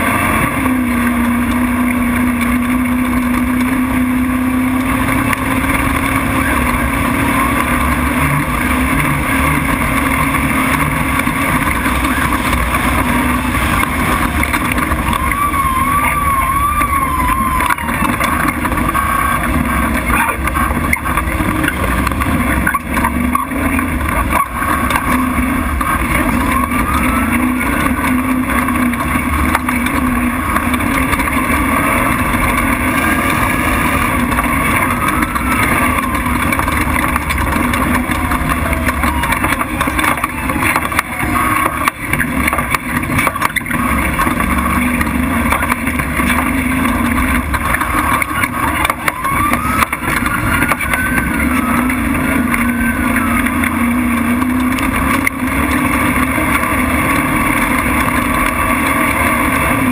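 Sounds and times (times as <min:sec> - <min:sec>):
road and wind noise: 0:00.0 - 0:59.9
truck engine running hard: 0:00.0 - 0:59.9.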